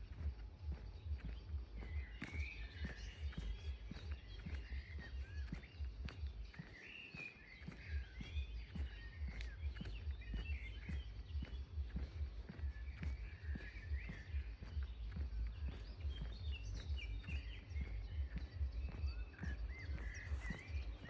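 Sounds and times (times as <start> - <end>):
footsteps on ground: 0.0 - 21.0
small birds chirping: 0.0 - 21.0.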